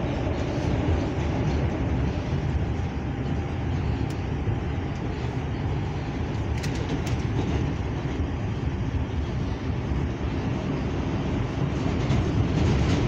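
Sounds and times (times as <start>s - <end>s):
subway car rumbling on rails: 0.0s - 13.0s.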